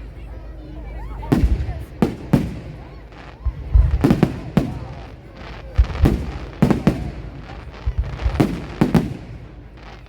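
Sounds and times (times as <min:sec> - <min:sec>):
fireworks bangs: 0:01.0 - 0:10.0.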